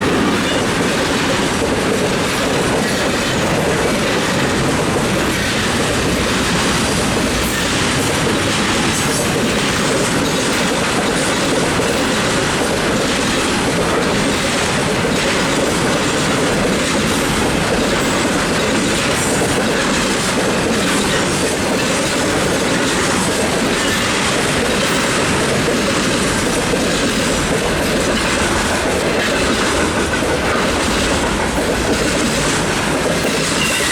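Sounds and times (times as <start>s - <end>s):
freight train rolling past: 0.0s - 33.9s
wheels clacking over rail joints: 0.0s - 33.9s.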